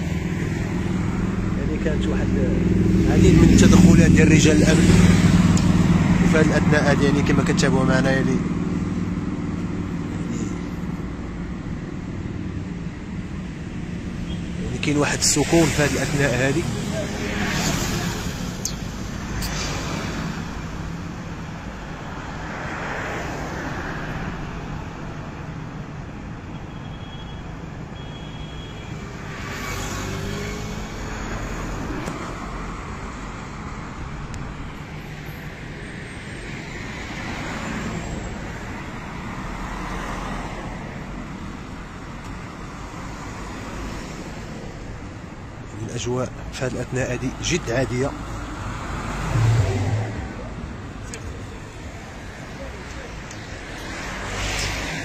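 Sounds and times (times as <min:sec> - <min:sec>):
cars passing by: 0:00.0 - 0:55.0.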